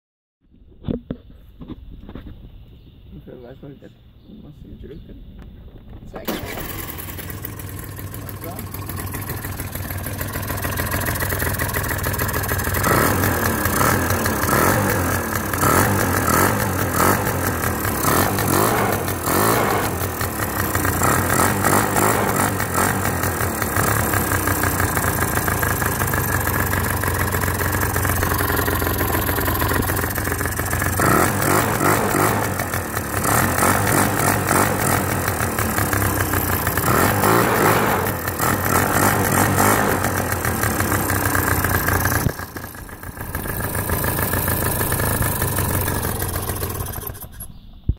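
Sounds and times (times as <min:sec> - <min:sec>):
scooter engine revving: 0:06.2 - 0:47.6.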